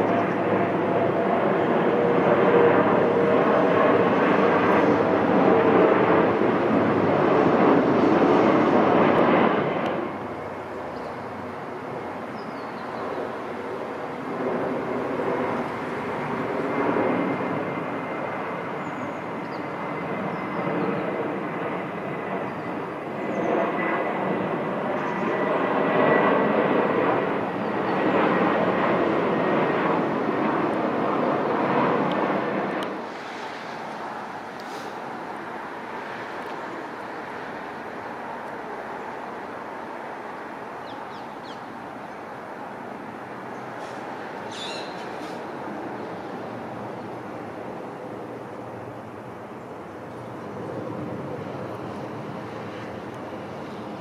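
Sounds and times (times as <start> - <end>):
aircraft engine noise: 0.0 - 54.0.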